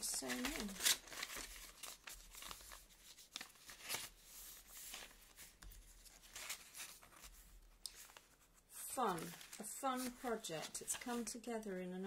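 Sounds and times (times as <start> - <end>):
paper pages rustling: 0.0 - 11.6.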